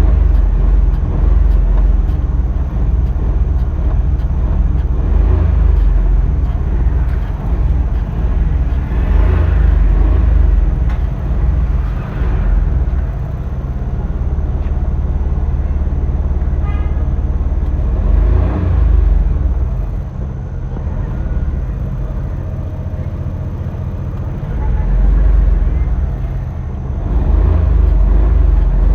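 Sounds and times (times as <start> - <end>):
car engine revving: 0.0 - 16.5, 17.4 - 28.9.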